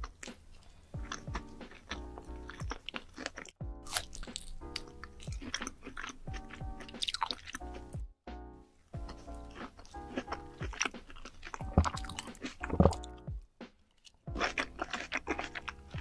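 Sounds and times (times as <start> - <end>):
crunchy chewing of fruit: 0.0 - 8.0, 9.0 - 16.0
light background music: 0.0 - 16.0.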